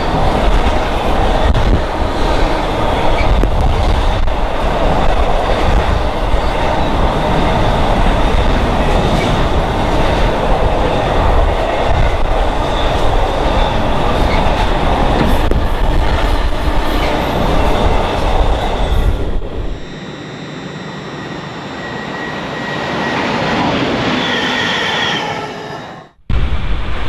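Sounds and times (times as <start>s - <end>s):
freight train passing: 0.0s - 27.0s.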